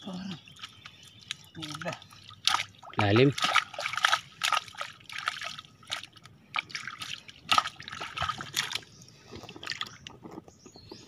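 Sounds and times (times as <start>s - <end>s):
hands squelching in wet mud: 0.4s - 10.2s.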